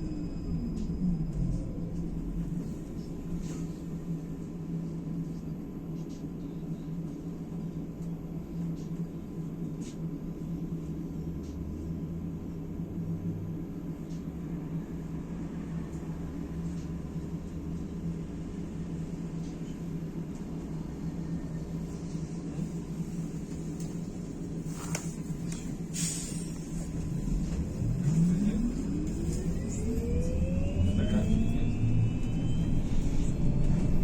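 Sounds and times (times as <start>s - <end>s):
low hum and rumble: 0.0s - 34.0s.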